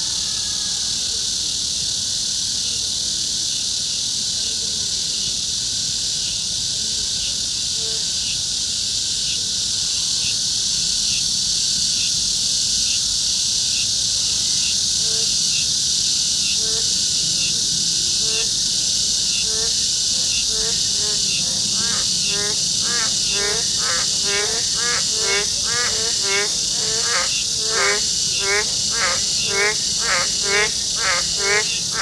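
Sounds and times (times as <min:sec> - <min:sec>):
chorus of insects: 0:00.0 - 0:32.0.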